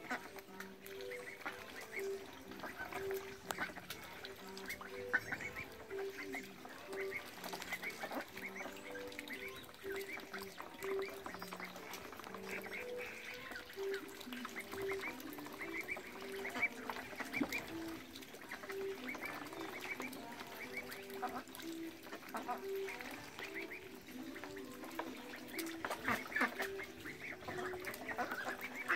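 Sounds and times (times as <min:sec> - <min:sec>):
ducks quacking: 0:00.0 - 0:28.9
water splashing: 0:00.0 - 0:28.9.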